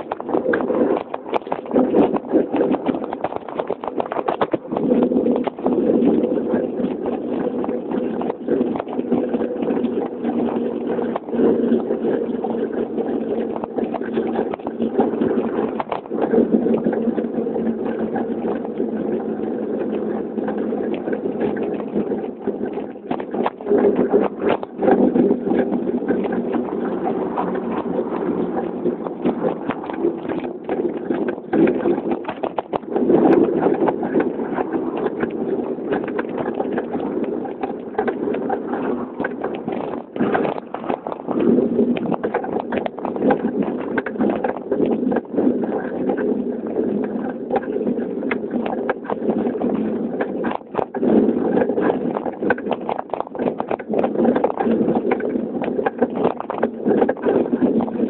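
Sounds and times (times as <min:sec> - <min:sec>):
wind and road rumble: 0:00.0 - 0:58.0.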